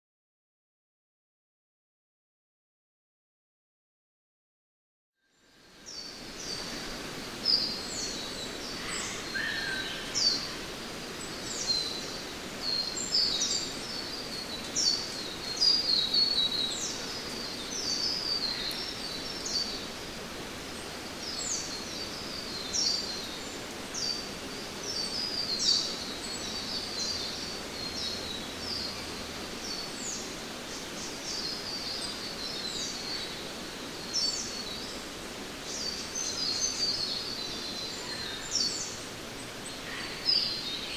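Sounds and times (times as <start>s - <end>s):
steady background hiss: 5.3s - 40.9s.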